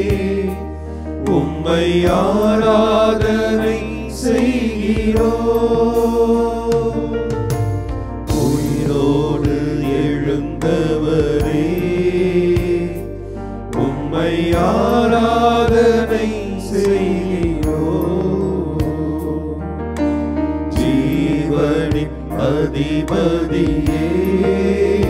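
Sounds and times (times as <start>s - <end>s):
person singing a hymn: 0.0s - 7.4s, 8.3s - 25.0s
instrumental accompaniment: 0.0s - 25.0s.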